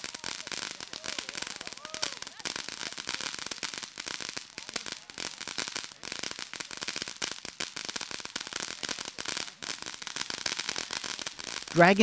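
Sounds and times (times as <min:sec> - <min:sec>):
firework crackling pops: 0:00.0 - 0:12.0
firework spray hiss: 0:00.0 - 0:12.0.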